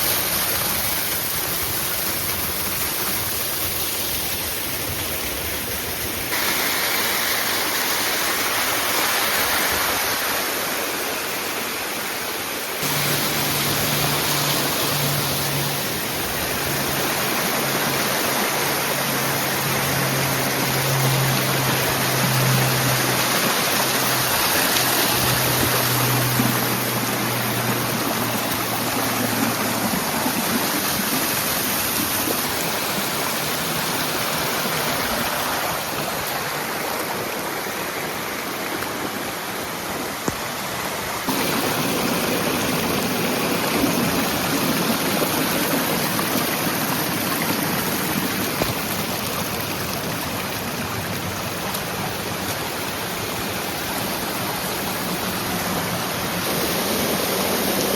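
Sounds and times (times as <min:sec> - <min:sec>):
rushing waterfall and stream: 0:00.0 - 0:57.9.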